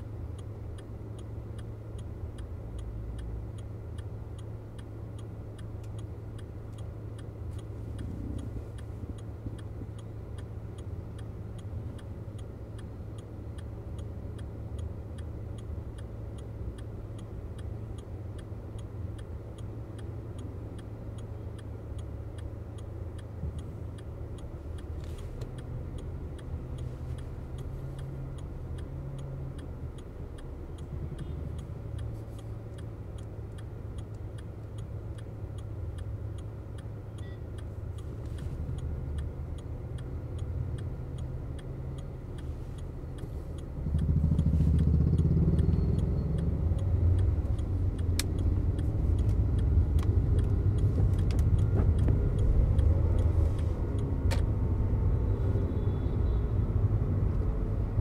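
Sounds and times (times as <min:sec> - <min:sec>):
turn signal ticking: 0:00.0 - 0:58.0.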